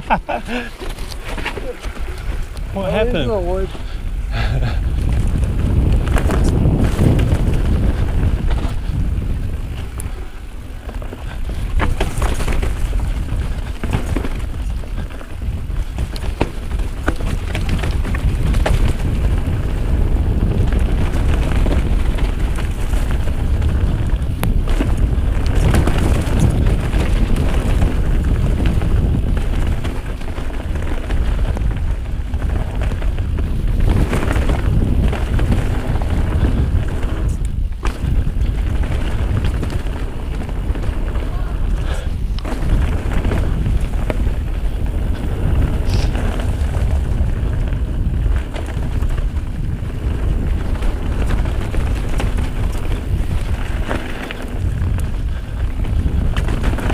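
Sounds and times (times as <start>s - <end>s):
bike knocking and clattering: 0.0s - 56.9s
tyres rumbling on dirt trail: 0.0s - 56.9s
wind buffeting microphone: 0.0s - 56.9s.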